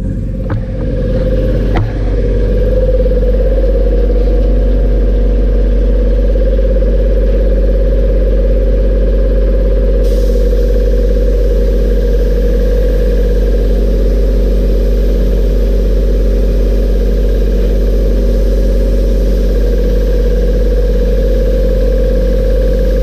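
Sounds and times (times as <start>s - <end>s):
machine motor humming: 0.0s - 23.0s.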